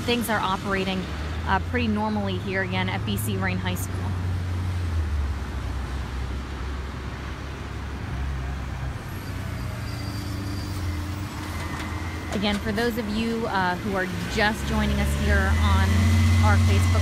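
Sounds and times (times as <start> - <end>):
traffic noise: 0.0 - 17.0
vehicle engine humming: 0.0 - 17.0.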